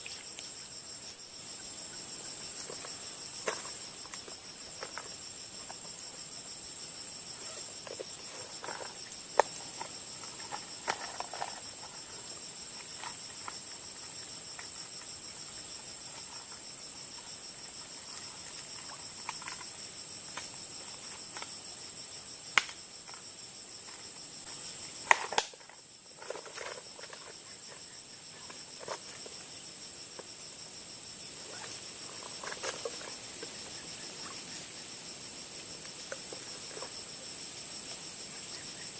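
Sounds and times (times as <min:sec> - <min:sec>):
shrill insect chorus: 0:00.0 - 0:38.9.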